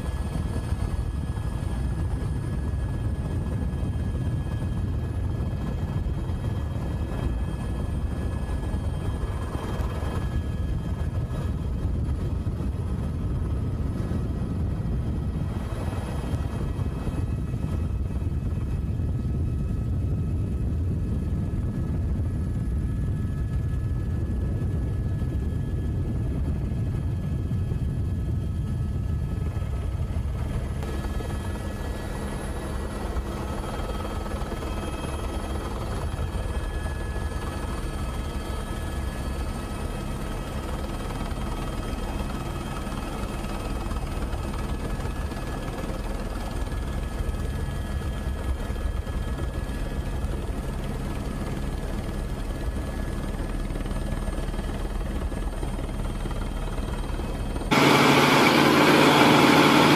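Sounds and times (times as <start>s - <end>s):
helicopter rotor and engine rumble: 0.0s - 59.9s.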